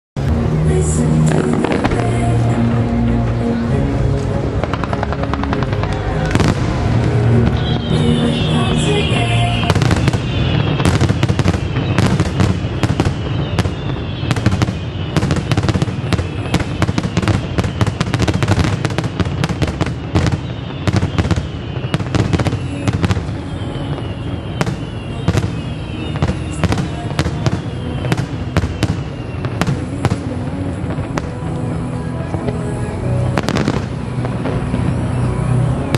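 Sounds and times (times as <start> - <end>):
fireworks bangs and crackles: 0.2 - 35.9.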